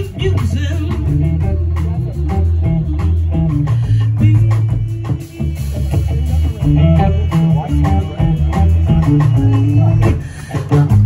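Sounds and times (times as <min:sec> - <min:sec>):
bass guitar: 0:00.0 - 0:11.0
drums: 0:00.0 - 0:11.0
electric guitar: 0:00.0 - 0:11.0.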